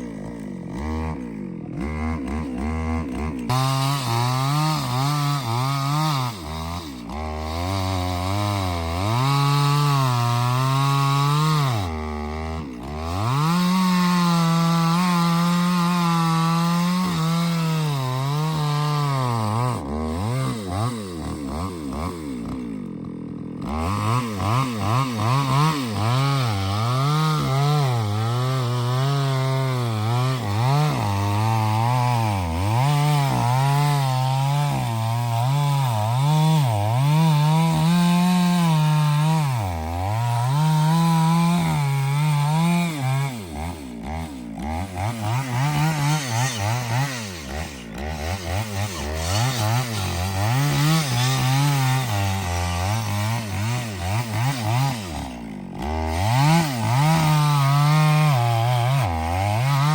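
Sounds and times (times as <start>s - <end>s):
chainsaw cutting tree: 0.0s - 59.9s.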